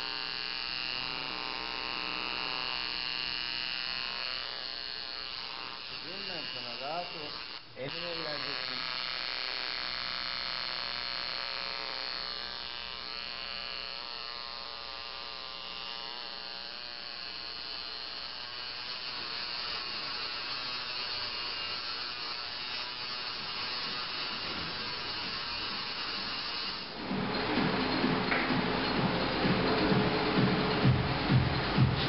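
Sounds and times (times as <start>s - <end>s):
tattoo machine buzzing: 0.0s - 32.0s.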